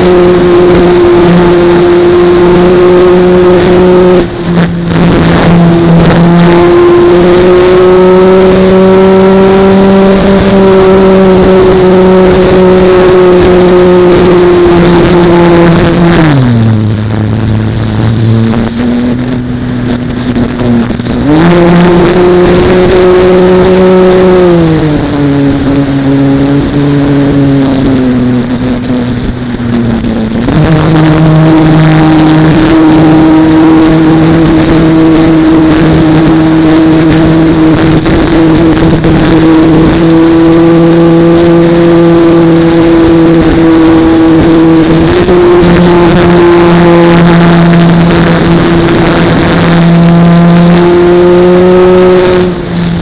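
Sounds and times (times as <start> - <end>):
wind noise: 0.0 - 53.0.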